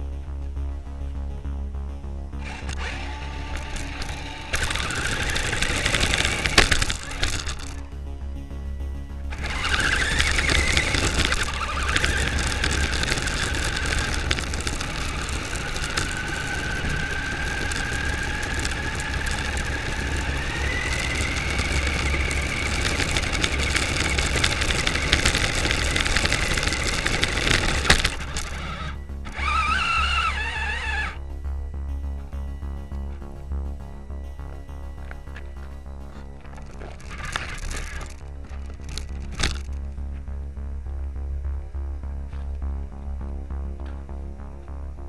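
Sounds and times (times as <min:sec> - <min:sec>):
rattle of tyres and chassis: 0:02.3 - 0:40.6
electric motor whining: 0:02.4 - 0:39.9.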